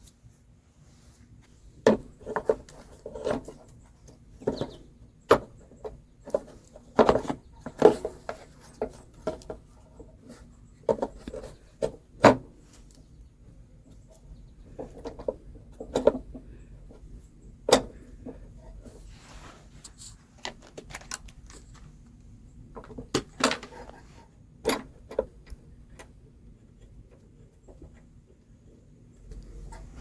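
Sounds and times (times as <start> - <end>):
engine parts clicking and knocking: 1.8 - 19.0, 19.9 - 30.0.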